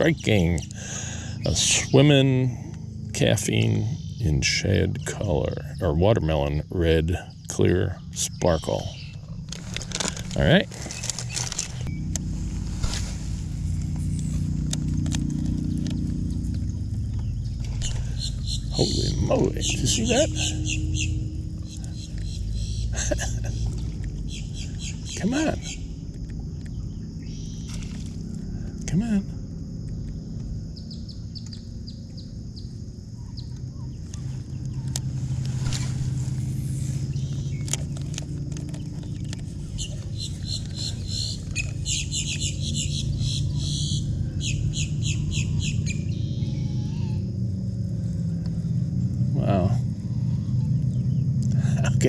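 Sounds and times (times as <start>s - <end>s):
bird chirping: 0.0s - 29.2s, 29.9s - 47.4s, 48.4s - 51.5s
boat motor humming: 0.0s - 52.0s.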